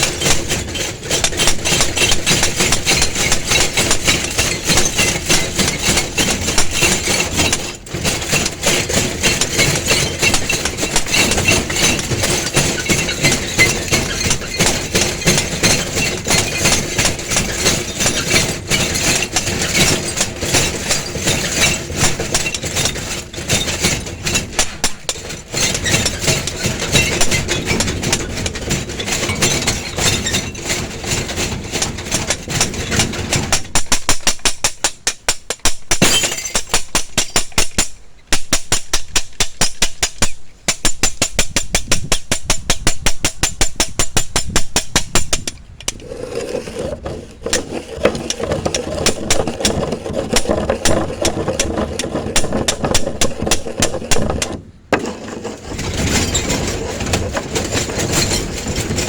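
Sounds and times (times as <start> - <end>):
fast train of sharp clicks: 0.0 - 36.0, 36.7 - 59.0.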